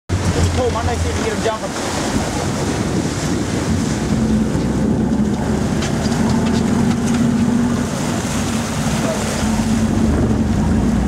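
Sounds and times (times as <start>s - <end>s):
boat engines running: 0.1s - 11.0s
water churning: 0.1s - 11.0s.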